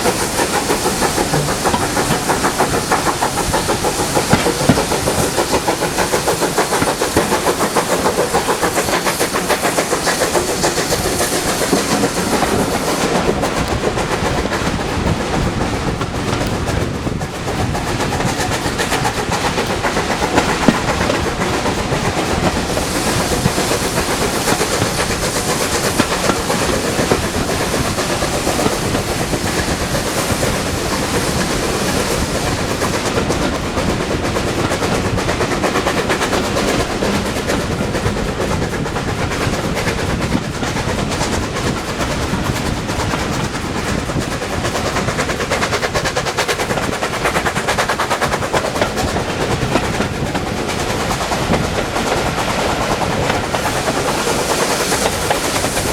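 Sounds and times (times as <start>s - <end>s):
train rattling on rails: 0.0s - 55.9s.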